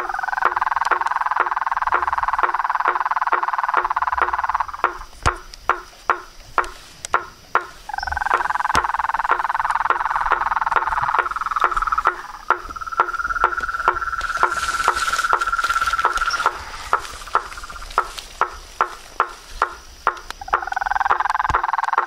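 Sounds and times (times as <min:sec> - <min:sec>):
frog clicking call: 0:00.0 - 0:22.0
frogs trilling: 0:00.0 - 0:22.0.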